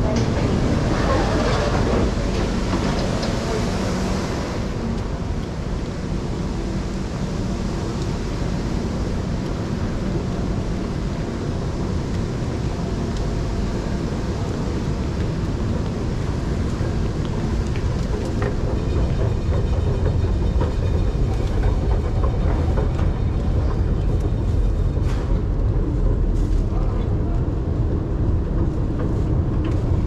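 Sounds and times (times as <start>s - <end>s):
metro station rumble and hum: 0.0s - 30.0s.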